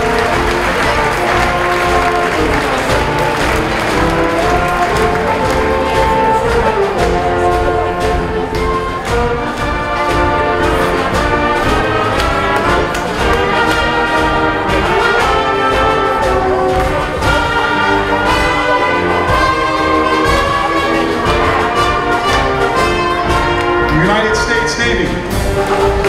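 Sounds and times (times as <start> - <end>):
concert band playing a march: 0.0 - 26.0.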